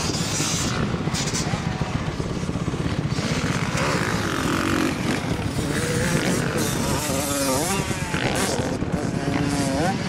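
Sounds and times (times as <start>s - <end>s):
motocross bike engine revving: 0.0s - 10.0s.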